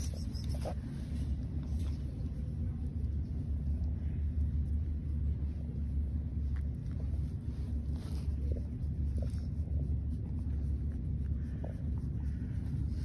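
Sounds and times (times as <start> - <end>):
cat purring: 2.5 - 13.0.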